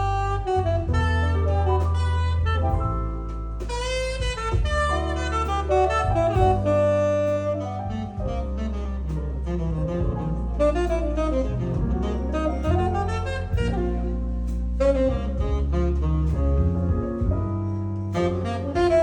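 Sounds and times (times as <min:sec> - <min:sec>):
jazz saxophone melody: 0:00.0 - 0:19.0
sustained bass line: 0:00.0 - 0:19.0.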